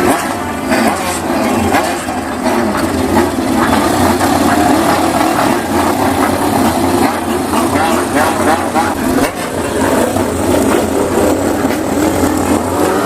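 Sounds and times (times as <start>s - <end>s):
motorcycle engine running roughly: 0.0s - 13.0s.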